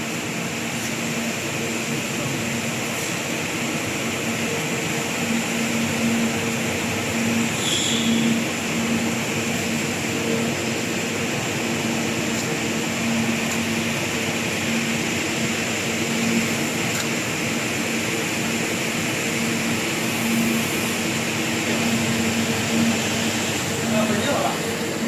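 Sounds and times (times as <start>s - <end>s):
welding machine humming: 3.8s - 25.0s.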